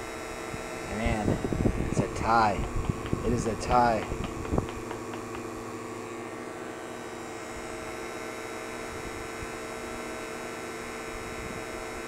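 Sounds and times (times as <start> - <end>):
vacuum pumps humming: 0.0 - 12.0.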